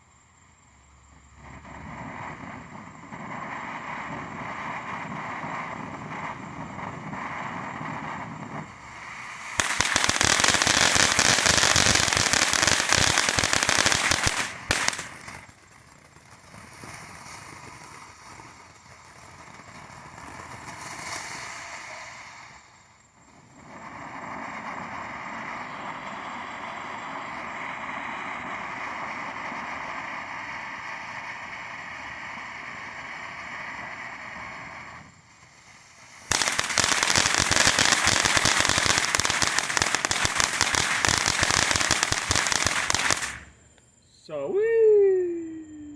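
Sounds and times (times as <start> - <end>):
firework fountain hissing: 0.0 - 43.7
firework crackling: 0.0 - 43.8.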